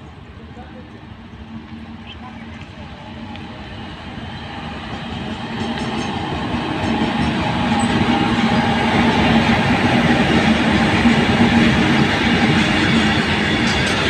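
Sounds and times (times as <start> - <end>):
electric locomotive hum: 0.0 - 14.0
wheels rumbling on rail: 0.0 - 14.0.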